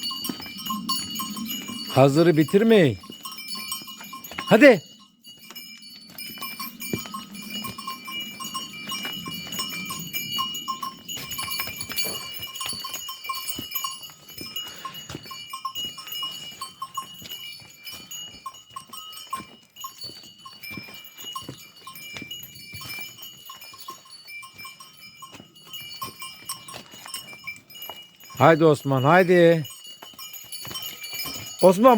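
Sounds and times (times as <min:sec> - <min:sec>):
livestock bells tinkling: 0:00.0 - 0:31.9.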